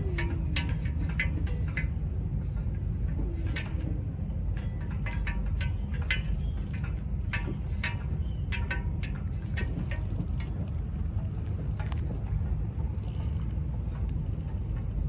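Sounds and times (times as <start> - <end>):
street noise rumble: 0.0 - 15.0.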